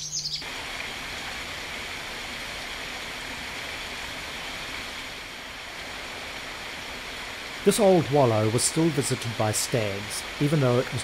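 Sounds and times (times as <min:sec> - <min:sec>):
stream water rushing: 0:00.4 - 0:11.0.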